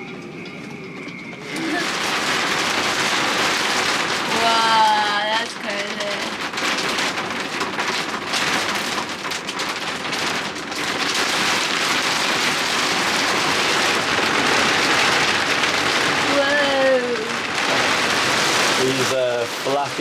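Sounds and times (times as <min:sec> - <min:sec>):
heavy rain beating down: 0:00.2 - 0:20.0.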